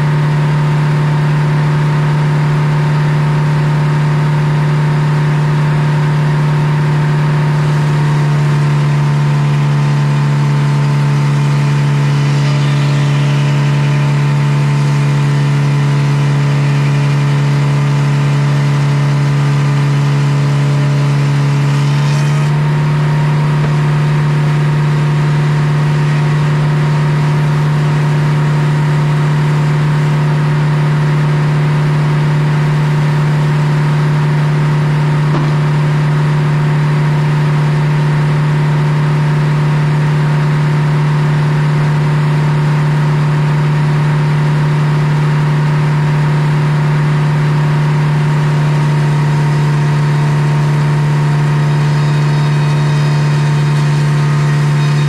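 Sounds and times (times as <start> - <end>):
circular saw cutting log: 0.0 - 31.6, 32.2 - 40.6, 45.7 - 55.0
power unit humming: 0.0 - 55.0.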